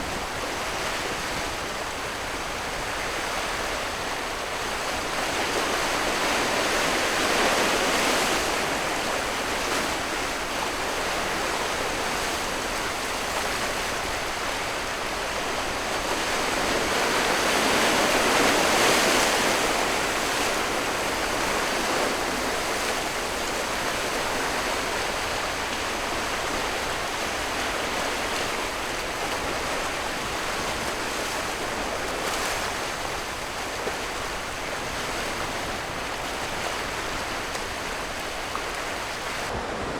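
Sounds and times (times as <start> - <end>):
sea water washing and rushing: 0.0 - 39.9.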